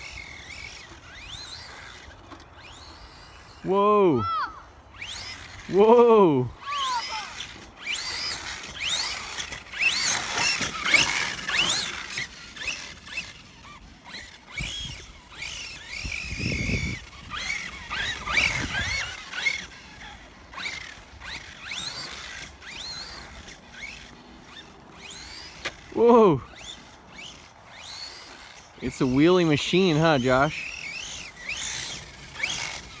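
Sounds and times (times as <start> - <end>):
rc truck motor whining: 0.0 - 33.0.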